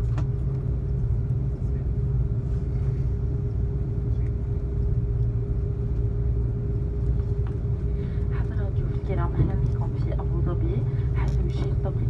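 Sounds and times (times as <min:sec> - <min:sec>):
aircraft cabin rumble: 0:00.0 - 0:12.0
constant hum: 0:00.0 - 0:12.0.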